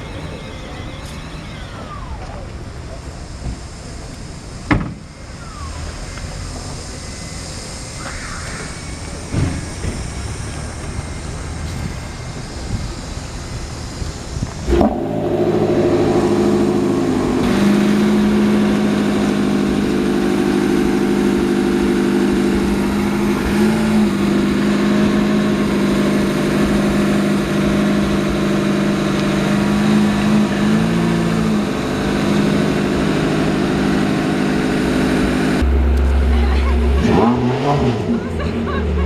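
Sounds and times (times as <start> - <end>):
car engine starting and revving: 0.0 - 7.5, 9.0 - 39.0.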